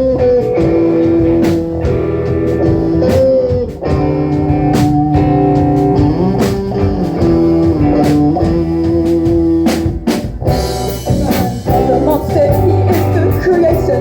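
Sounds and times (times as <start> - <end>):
drum kit beat: 0.0 - 14.0
guitar sustained notes: 0.0 - 14.0.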